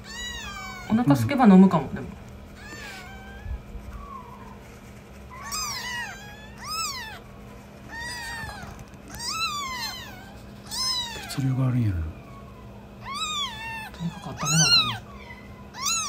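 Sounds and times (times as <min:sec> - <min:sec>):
newborn kitten mewing: 0:00.0 - 0:01.2, 0:02.5 - 0:04.6, 0:05.3 - 0:16.0.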